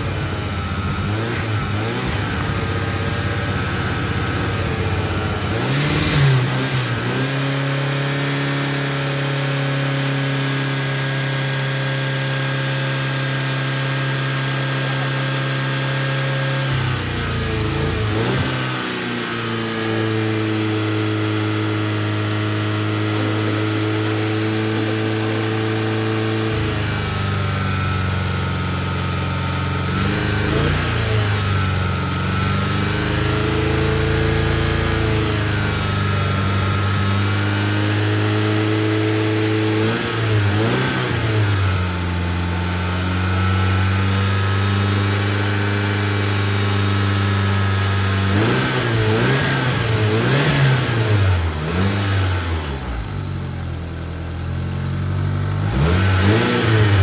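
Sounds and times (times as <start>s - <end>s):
car engine revving unevenly: 0.0s - 57.0s.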